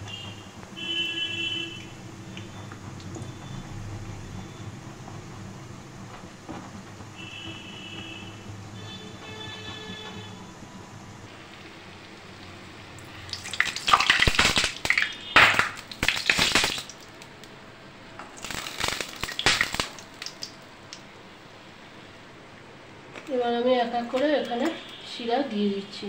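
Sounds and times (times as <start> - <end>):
deep-frying sizzle in oil: 0.0 - 21.1.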